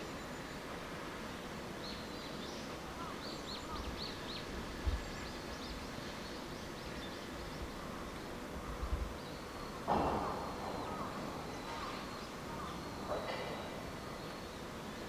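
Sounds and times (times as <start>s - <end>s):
outdoor background hiss: 0.0s - 15.0s
small birds chirping: 1.8s - 15.0s.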